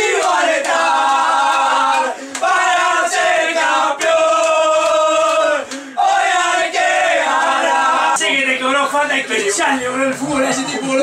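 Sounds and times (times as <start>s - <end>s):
men chanting together: 0.0s - 9.4s.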